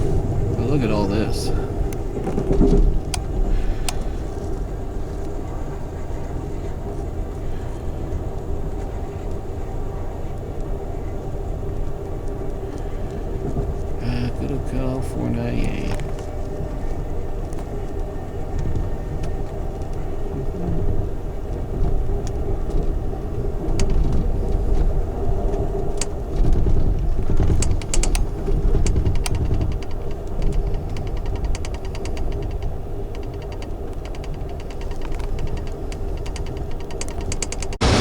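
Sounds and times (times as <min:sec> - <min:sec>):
train clicks and rattles: 0:00.0 - 0:38.0
train rumble and hum: 0:00.0 - 0:38.0.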